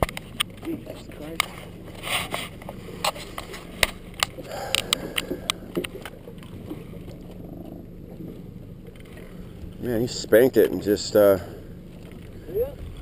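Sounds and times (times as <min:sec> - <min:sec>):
steady low hum: 0:00.0 - 0:13.0
water lapping at boat hull: 0:00.0 - 0:13.0.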